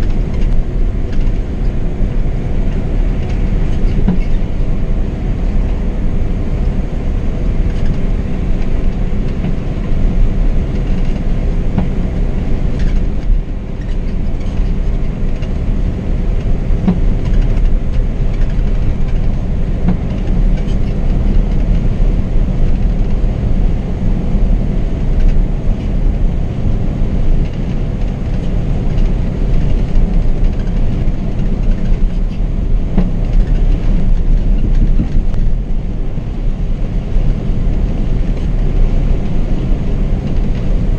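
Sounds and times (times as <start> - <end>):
coach engine and tyres rumbling: 0.0 - 40.9.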